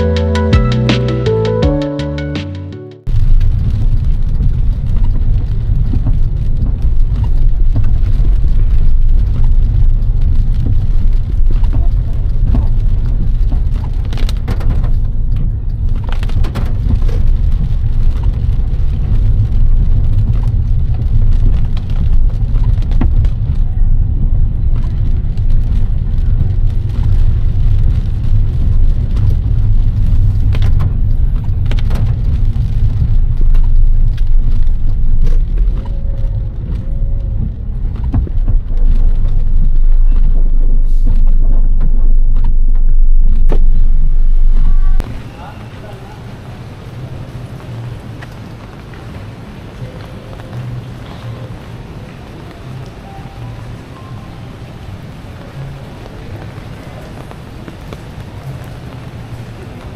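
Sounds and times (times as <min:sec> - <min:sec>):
car rumble on wet road: 0:03.0 - 0:59.9
rain hitting windshield: 0:03.1 - 0:59.9.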